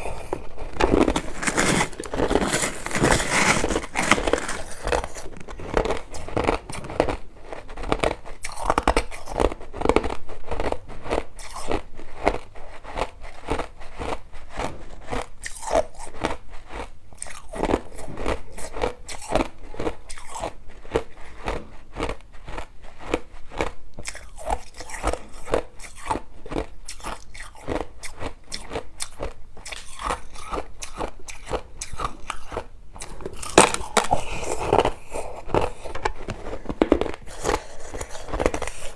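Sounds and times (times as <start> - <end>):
person chewing crushed ice: 0.0 - 38.9.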